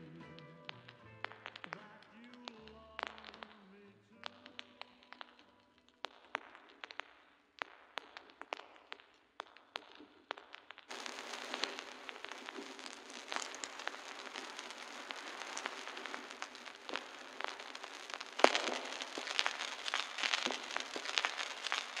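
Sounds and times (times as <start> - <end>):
vinyl record crackle and pops: 0.0 - 22.0.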